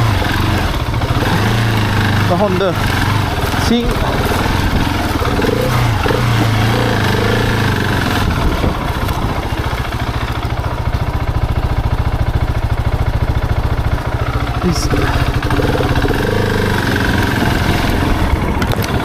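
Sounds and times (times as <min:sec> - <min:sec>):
motorcycle engine chugging: 0:00.0 - 0:19.0.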